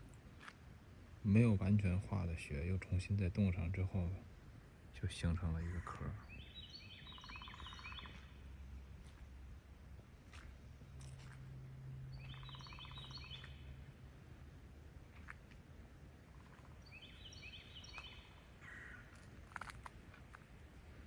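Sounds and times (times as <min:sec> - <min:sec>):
low steady hum: 0:00.0 - 0:21.0
outdoor ambience: 0:00.0 - 0:21.0
songbird singing: 0:01.2 - 0:20.4.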